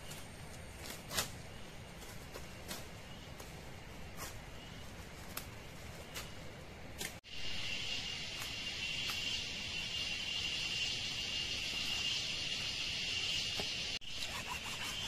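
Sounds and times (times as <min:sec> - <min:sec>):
forest insects buzzing: 0:00.0 - 0:15.0.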